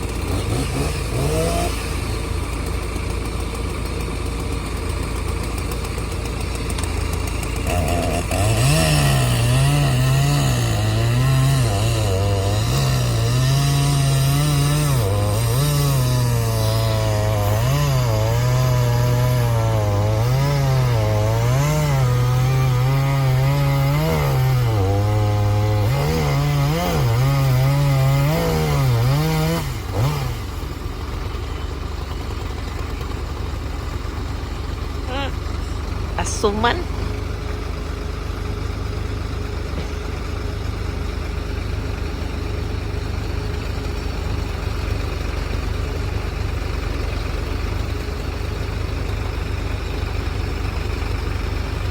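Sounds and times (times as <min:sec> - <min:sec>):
tractor engine labouring: 0:00.0 - 0:51.9.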